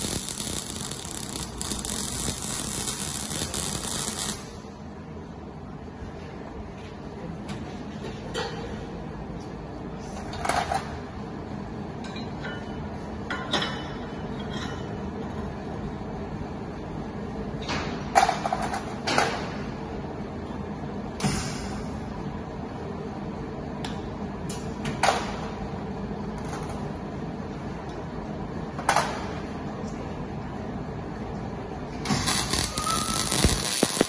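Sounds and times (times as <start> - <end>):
steady workshop hum: 0.0 - 34.0.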